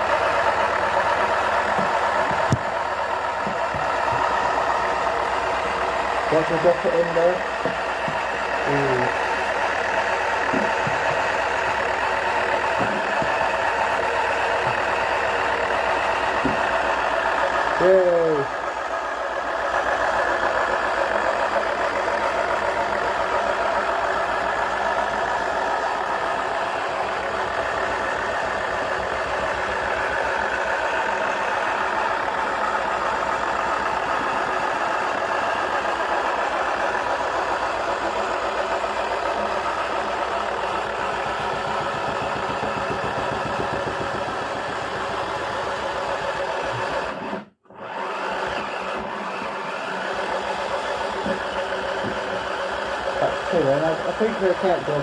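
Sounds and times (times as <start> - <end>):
toy washing machine motor whirring: 0.0 - 55.0.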